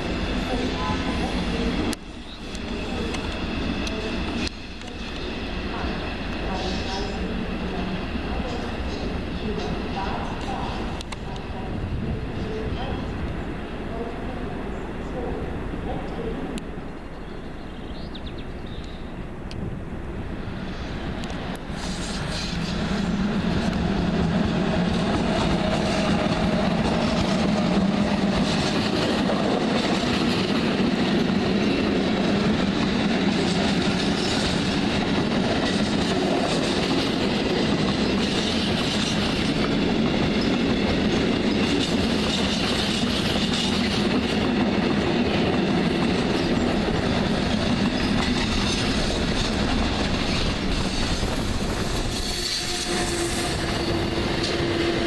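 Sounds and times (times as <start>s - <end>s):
train running past: 0.0s - 55.0s.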